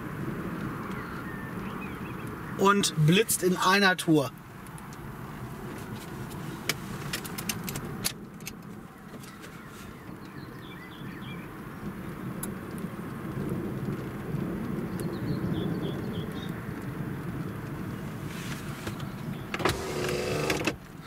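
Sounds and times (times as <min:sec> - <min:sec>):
low car rumble: 0:00.0 - 0:21.0.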